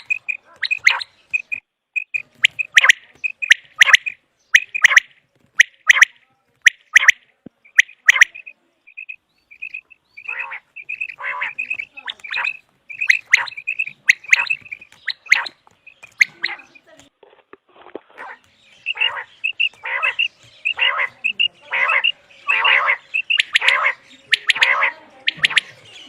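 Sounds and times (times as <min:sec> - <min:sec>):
quail calling: 0:00.0 - 0:17.0, 0:18.1 - 0:26.0.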